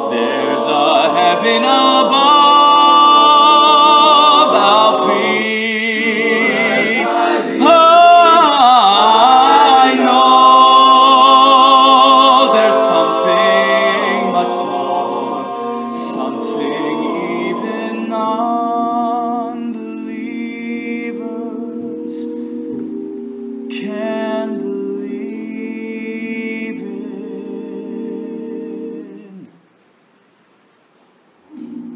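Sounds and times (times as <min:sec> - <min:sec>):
man singing with vibrato: 0:00.0 - 0:22.6, 0:23.7 - 0:29.5
male choir backing chords: 0:00.0 - 0:29.5.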